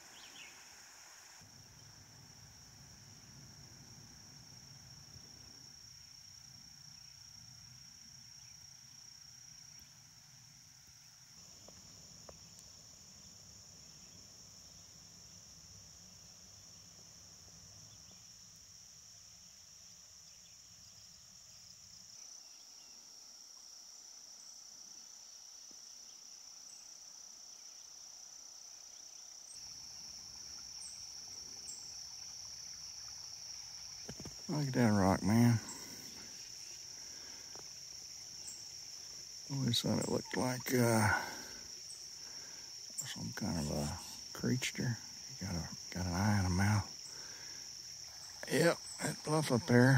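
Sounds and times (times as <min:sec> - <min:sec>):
insect chorus drone: 0:00.0 - 0:49.9.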